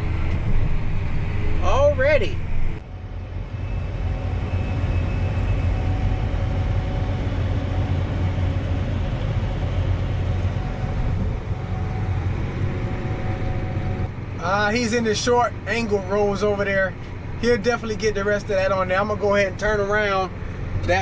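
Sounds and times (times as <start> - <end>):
tractor engine drone: 0.0 - 21.0.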